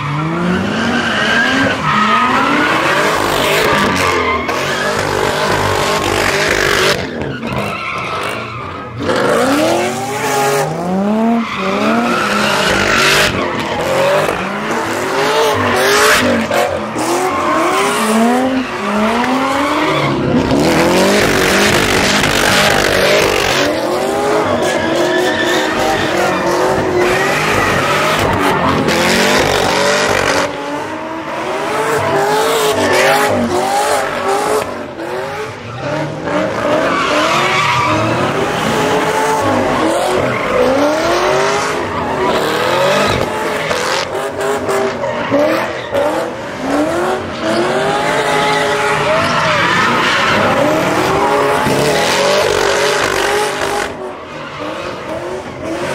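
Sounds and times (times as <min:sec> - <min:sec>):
car engine revving: 0:00.0 - 0:55.9
tires squealing: 0:00.0 - 0:55.9.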